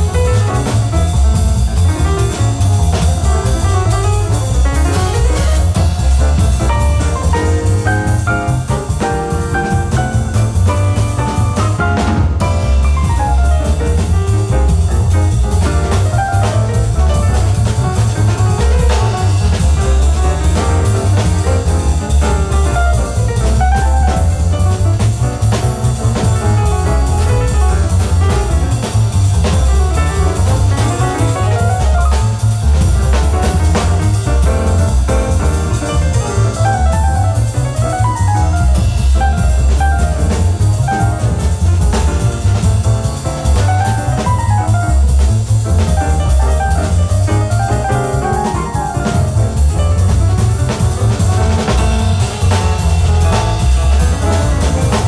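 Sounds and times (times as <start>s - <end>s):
double bass: 0.0s - 55.0s
drum kit cymbals: 0.0s - 55.0s
piano: 0.0s - 55.0s.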